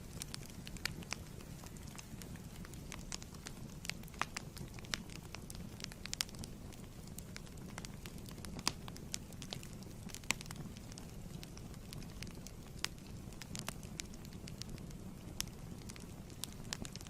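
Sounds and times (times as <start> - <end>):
sharp popping of fire: 0.0 - 17.0
wood fire crackling: 0.0 - 17.0.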